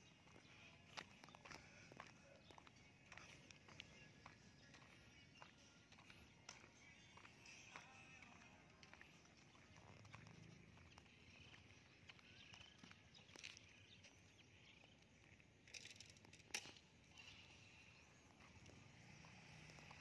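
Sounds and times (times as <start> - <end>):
faint footsteps on concrete: 0.0 - 20.0.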